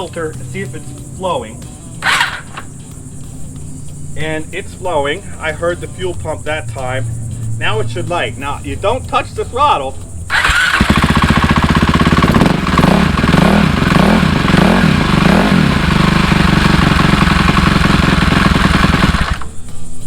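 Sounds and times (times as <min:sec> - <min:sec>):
dirt bike engine starting and idling: 0:00.0 - 0:08.6, 0:09.2 - 0:20.0.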